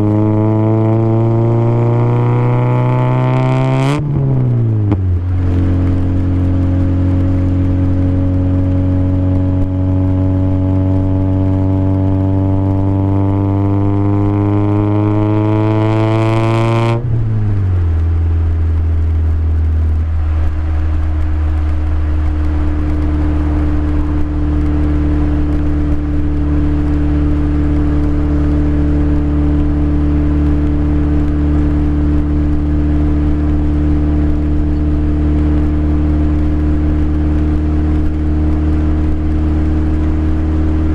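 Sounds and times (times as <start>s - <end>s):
car engine revving: 0.0s - 40.9s
exhaust drone: 0.0s - 40.9s.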